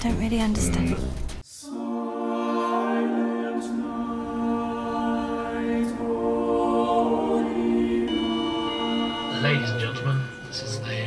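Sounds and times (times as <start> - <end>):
choir singing held chords: 1.6 - 11.0.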